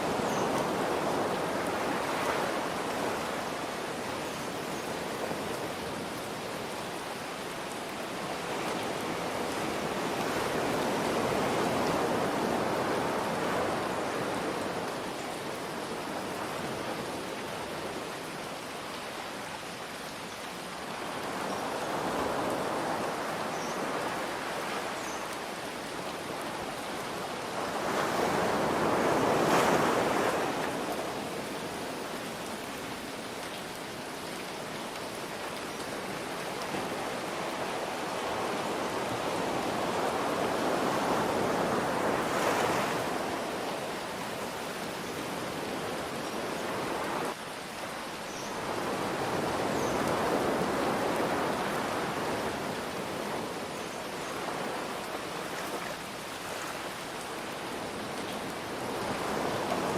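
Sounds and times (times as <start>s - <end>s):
ocean waves surging: 0.0s - 18.6s, 21.1s - 59.9s
rain hiss: 0.0s - 59.9s.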